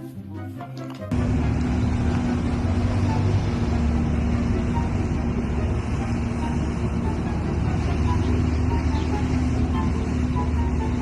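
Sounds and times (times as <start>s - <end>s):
constant low hum: 1.1s - 11.0s
low mechanical rumble: 1.1s - 11.0s.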